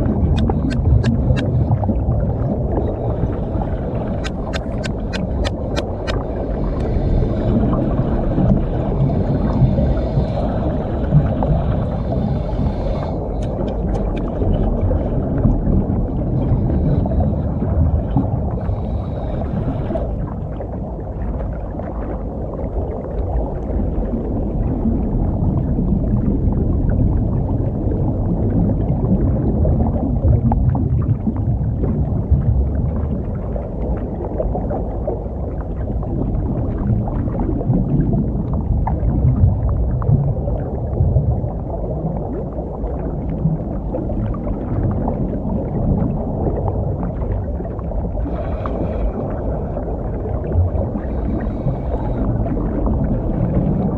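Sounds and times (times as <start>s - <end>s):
underwater breathing bubbles gurgling: 0.0s - 53.9s.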